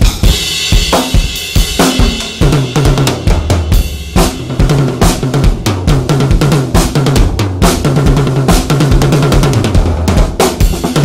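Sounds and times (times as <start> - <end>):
drum kit groove: 0.0 - 11.0.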